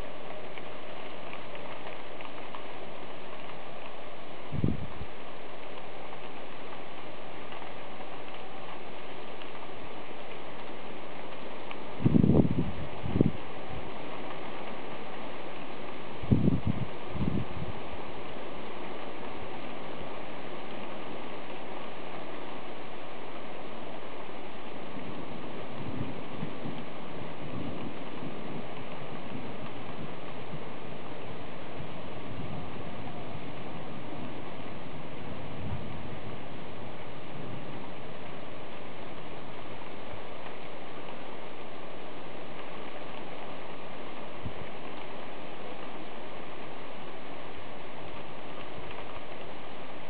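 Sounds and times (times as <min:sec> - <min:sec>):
rain falling steadily: 0:00.0 - 0:50.0.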